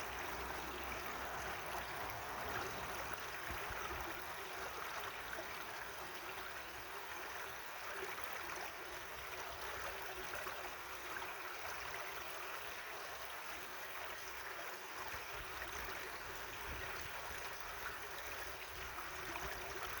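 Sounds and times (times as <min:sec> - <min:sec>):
stream water over rocks: 0:00.0 - 0:20.0.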